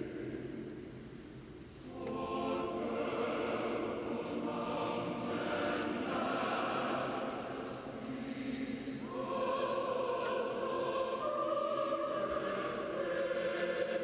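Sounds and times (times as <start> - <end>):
choir singing long-held notes: 0.0 - 0.9, 1.8 - 14.0.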